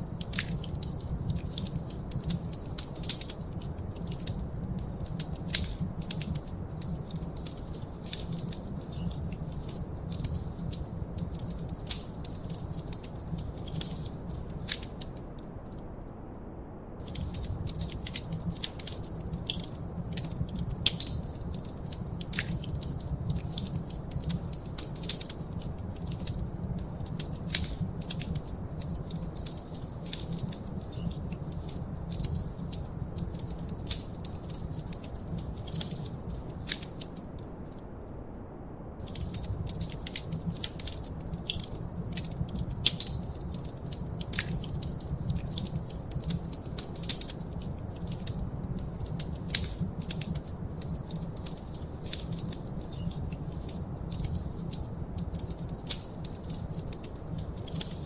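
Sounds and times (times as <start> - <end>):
wood fire crackling: 0.0 - 15.8, 17.0 - 38.1, 39.0 - 58.0
low rumble of flames: 0.0 - 58.0.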